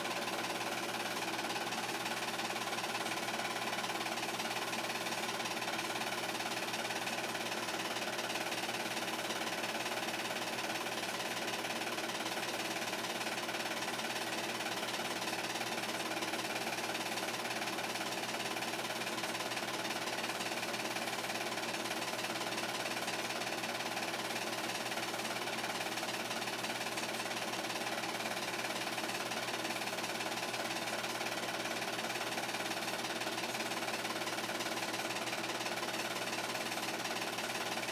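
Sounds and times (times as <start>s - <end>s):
film projector whirring: 0.0s - 37.9s.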